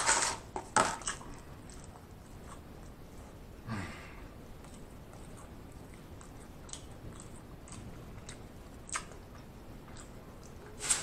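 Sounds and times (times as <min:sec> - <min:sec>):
person chewing food: 0:00.4 - 0:03.6, 0:04.2 - 0:11.0.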